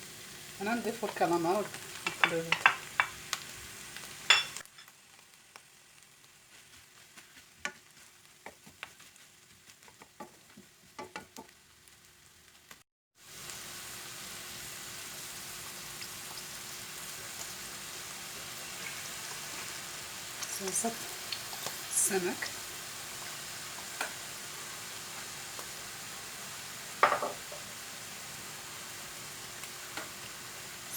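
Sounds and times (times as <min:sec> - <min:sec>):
food sizzling in a pan: 0:00.0 - 0:30.9.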